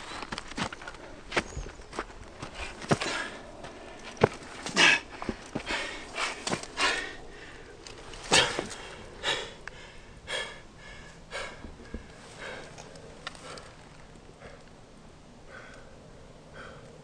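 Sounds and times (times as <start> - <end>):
man gasping breaths: 2.6 - 14.7, 15.4 - 17.0.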